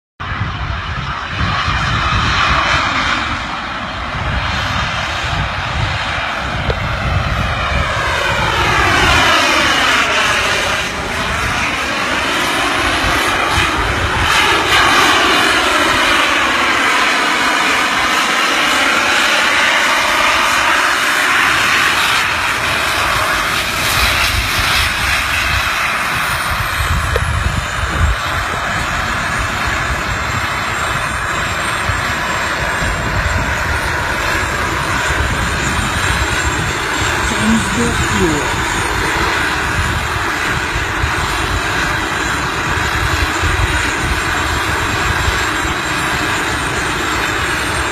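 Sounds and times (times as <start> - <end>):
jet hoverboard roar: 0.2 - 47.9.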